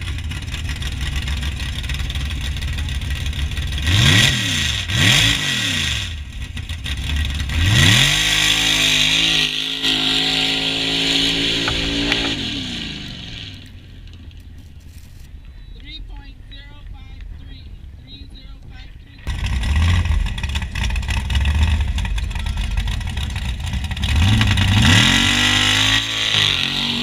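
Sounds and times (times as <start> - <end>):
truck engine revving: 0.0 - 14.2, 19.3 - 27.0.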